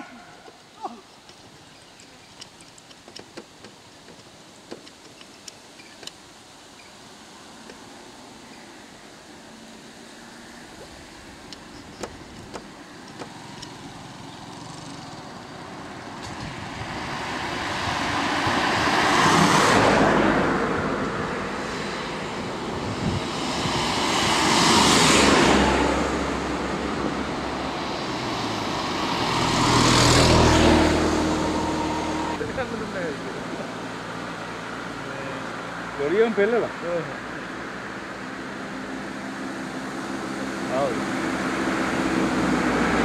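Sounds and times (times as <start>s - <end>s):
vehicles passing on road: 0.0s - 43.0s.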